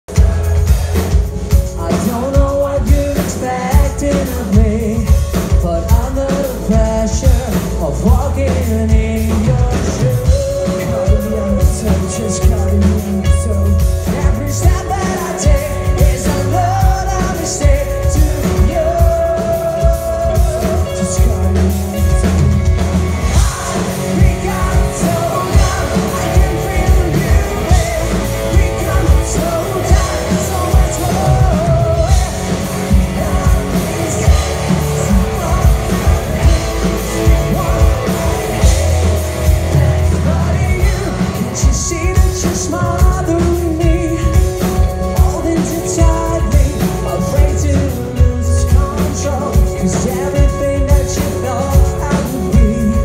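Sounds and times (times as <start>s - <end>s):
lead singer singing: 0.0s - 53.0s
live rock band playing: 0.0s - 53.0s.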